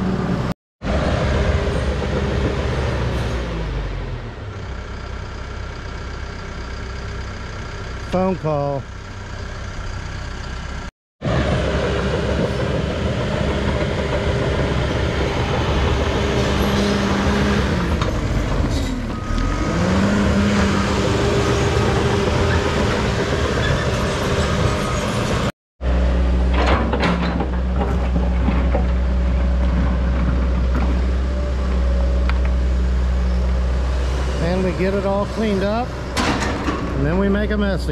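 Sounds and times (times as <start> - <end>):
excavator engine running while digging: 0.0 - 8.2, 8.9 - 37.4
bulldozer engine pushing dirt: 0.0 - 37.9.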